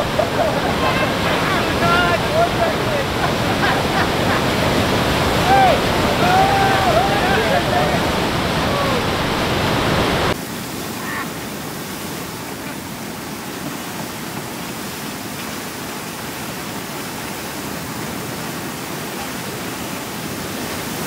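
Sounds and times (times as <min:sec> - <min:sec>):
river water rushing into surf: 0:00.0 - 0:21.0.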